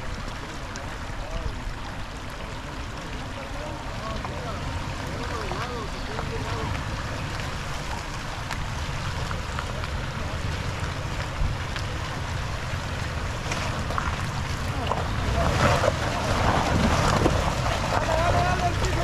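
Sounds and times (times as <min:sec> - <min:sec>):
vehicle crawling up trail: 0:00.0 - 0:19.0.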